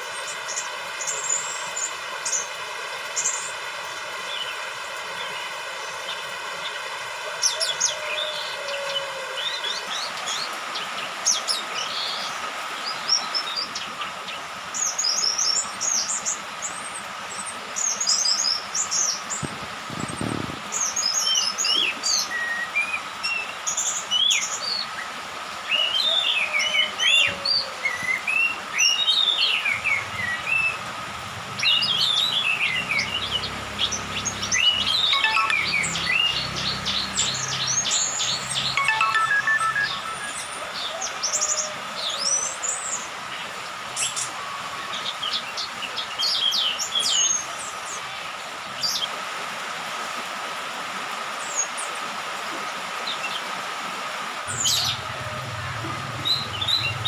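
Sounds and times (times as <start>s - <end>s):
thrush twittering song: 0.0s - 44.4s, 54.4s - 57.0s.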